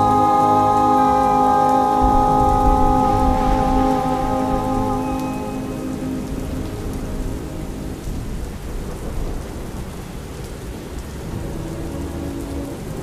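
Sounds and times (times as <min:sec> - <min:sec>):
steady rain: 0:00.0 - 0:13.0
rumble of thunder: 0:02.0 - 0:12.4.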